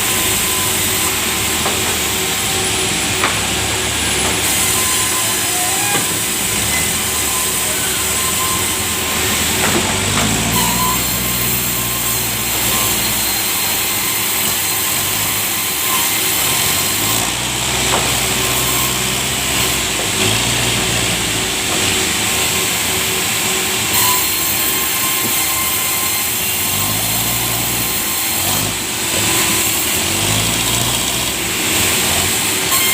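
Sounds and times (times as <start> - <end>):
saw cutting through log: 0.0 - 32.9.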